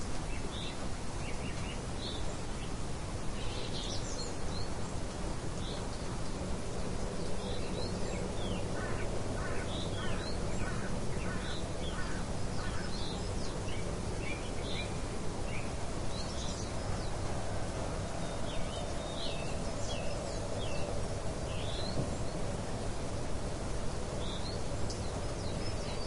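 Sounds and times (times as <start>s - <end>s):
steady hiss of rain: 0.0s - 26.0s.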